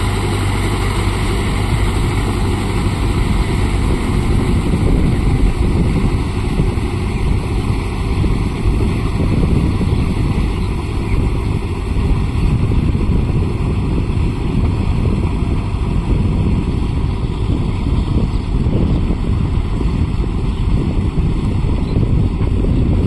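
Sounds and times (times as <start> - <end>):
tractor diesel engine running: 0.0 - 23.0
wind rumbling on microphone: 0.0 - 23.0.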